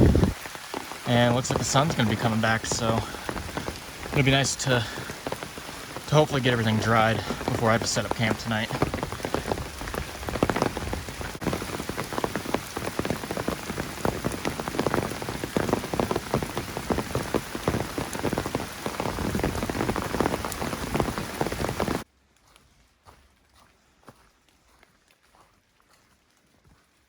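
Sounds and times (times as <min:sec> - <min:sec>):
rain pattering on umbrella: 0:00.0 - 0:22.1.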